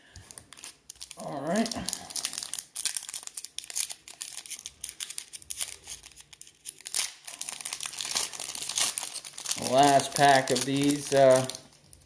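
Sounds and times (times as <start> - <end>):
card pack wrapper crinkling: 0.1 - 12.0.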